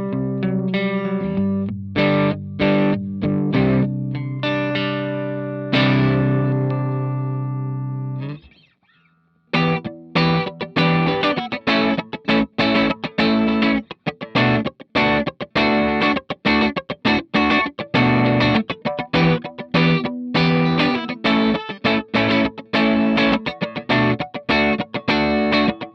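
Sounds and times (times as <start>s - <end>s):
choppy guitar chord stabs: 0.0s - 8.6s, 9.5s - 25.9s
electric guitar chord ringing: 3.6s - 8.4s, 9.6s - 25.9s.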